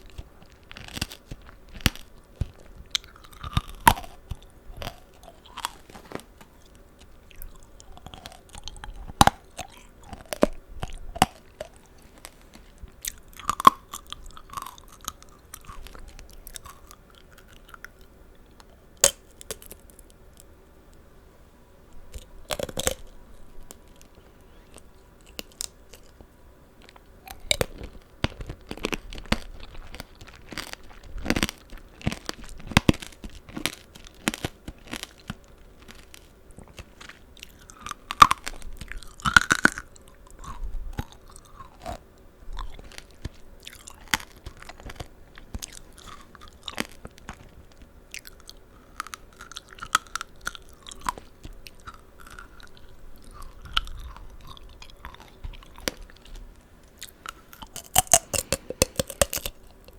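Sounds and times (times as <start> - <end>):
crunchy chewing of candied fruit: 0.0 - 20.5, 22.0 - 59.9.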